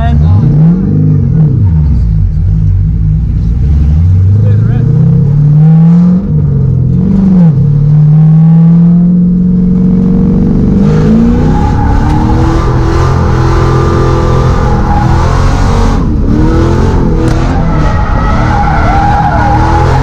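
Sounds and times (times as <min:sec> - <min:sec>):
car engine revving hard: 0:03.5 - 0:20.0.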